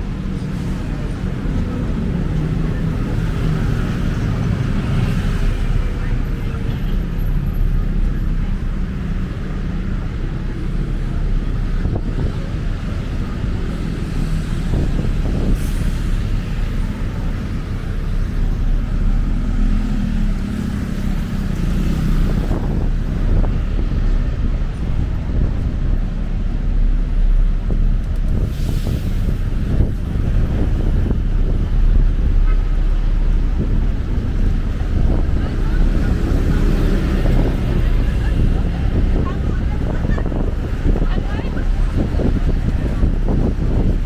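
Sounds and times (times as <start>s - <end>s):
city street traffic: 0.0s - 44.0s.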